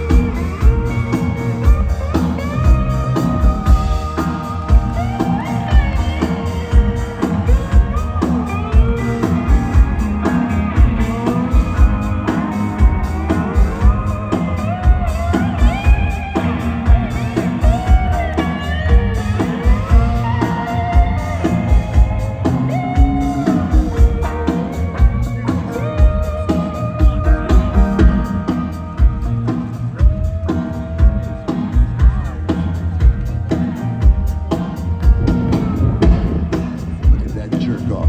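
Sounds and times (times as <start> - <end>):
bass guitar: 0.0 - 38.0
drum beat: 0.0 - 38.0
lead guitar bending notes: 0.0 - 38.0.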